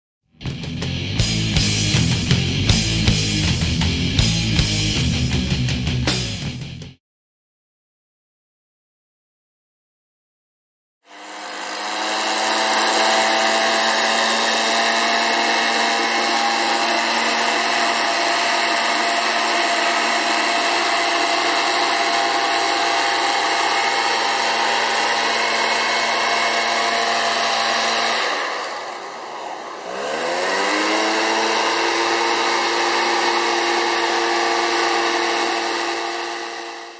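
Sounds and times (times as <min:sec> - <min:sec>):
electric blower whining: 0:00.4 - 0:06.0, 0:11.1 - 0:36.9.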